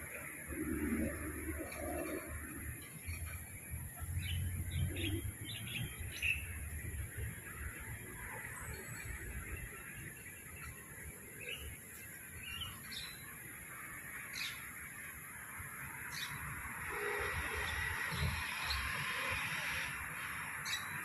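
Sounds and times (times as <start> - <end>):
birds chirping: 0.0 - 21.0
outdoor background noise: 0.0 - 21.0.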